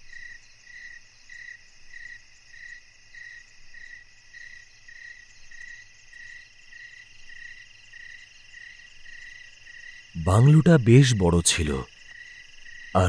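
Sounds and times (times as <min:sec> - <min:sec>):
crickets chirping: 0:00.0 - 0:13.0
steady high insect trill: 0:00.0 - 0:13.0.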